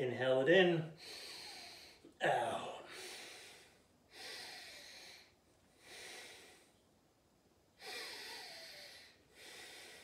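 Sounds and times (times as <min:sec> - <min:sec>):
deep breaths: 0:00.9 - 0:06.9, 0:07.8 - 0:10.0.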